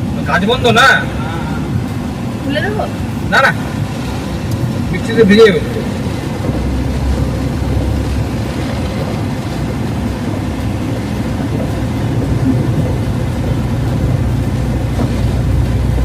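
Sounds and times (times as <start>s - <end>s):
car cabin engine and road rumble: 0.0s - 16.0s.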